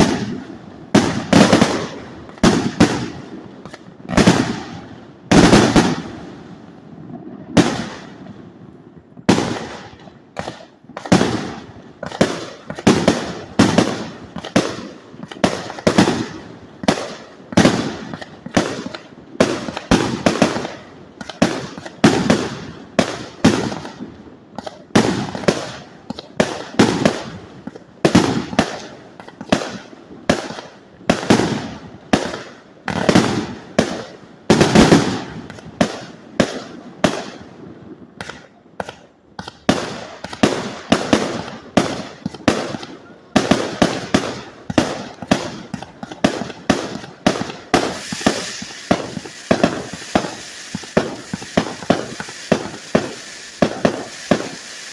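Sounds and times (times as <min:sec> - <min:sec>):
fireworks bangs: 0:00.0 - 0:54.9.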